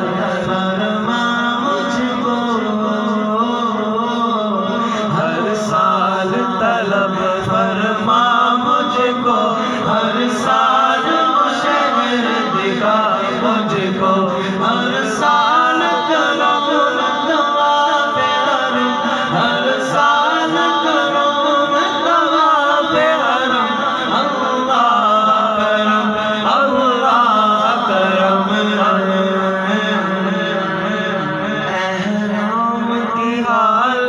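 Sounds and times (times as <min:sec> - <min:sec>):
man singing a devotional hymn: 0:00.0 - 0:34.0.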